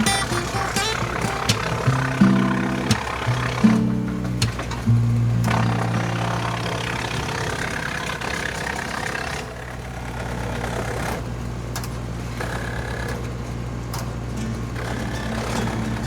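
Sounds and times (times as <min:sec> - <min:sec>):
woodchipper engine running: 0:00.0 - 0:16.0.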